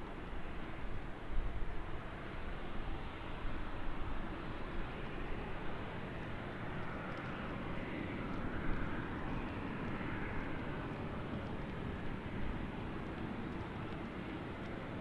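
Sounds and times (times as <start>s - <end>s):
airliner engine rush: 0.0s - 15.0s.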